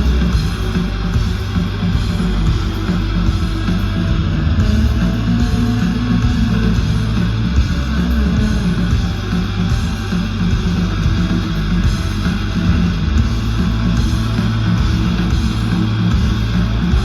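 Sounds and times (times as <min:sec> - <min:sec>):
bass line: 0:00.0 - 0:17.0
live rock band playing: 0:00.0 - 0:17.0.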